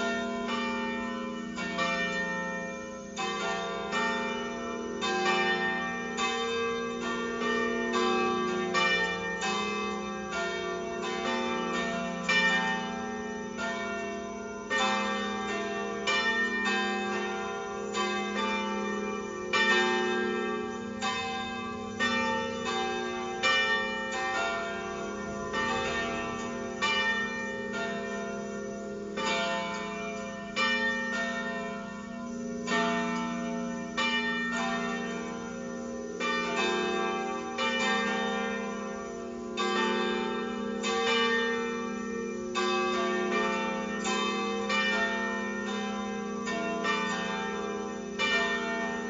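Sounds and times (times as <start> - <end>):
church bells pealing: 0.0 - 49.0.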